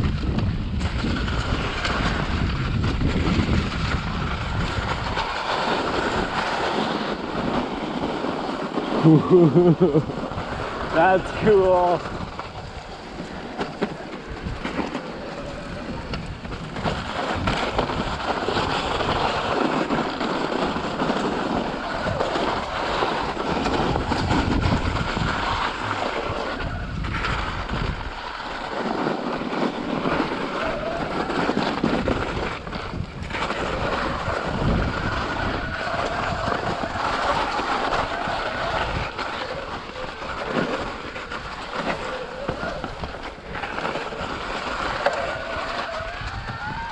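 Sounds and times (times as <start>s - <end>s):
bike tyres rolling: 0.0s - 46.9s
wind buffeting microphone: 0.0s - 46.9s.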